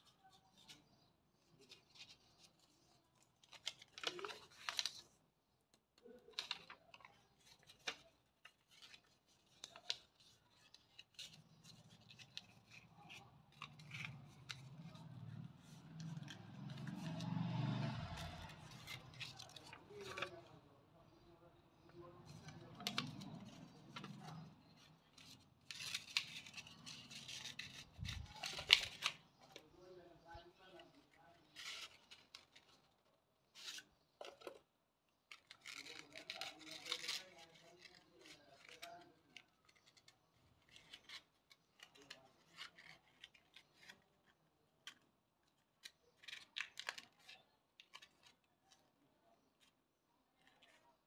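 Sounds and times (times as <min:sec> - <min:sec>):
paper rustling and crackling: 0:00.4 - 0:05.3, 0:06.0 - 0:20.6, 0:21.8 - 0:34.7, 0:35.3 - 0:44.3.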